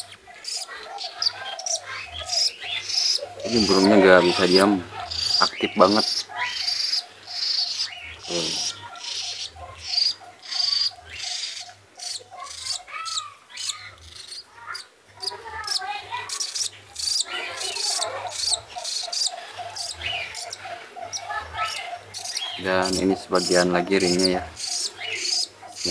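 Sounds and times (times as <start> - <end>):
fast ticking: 0.0 - 25.9
parrot chick begging calls: 0.0 - 25.9.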